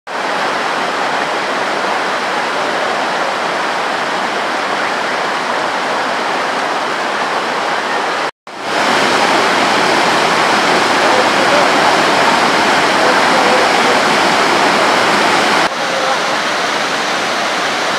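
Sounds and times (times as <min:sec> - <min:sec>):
floodwater rushing over rocks: 0:00.1 - 0:17.9.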